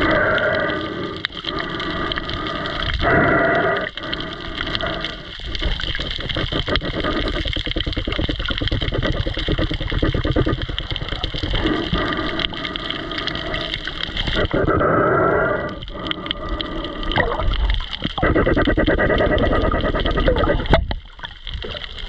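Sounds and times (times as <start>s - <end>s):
rapid crackle of clicks: 0.0s - 22.0s
underwater rush and gurgle: 0.0s - 22.0s.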